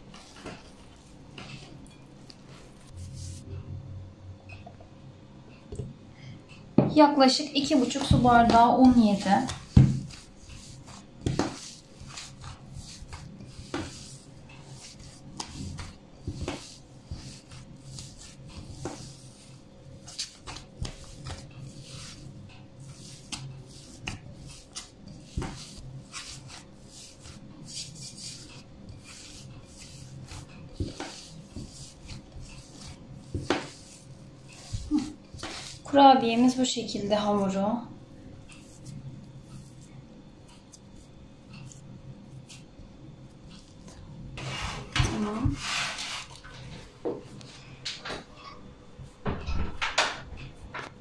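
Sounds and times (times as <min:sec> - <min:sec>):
hand kneading dough: 0:00.0 - 0:03.6, 0:06.8 - 0:49.2.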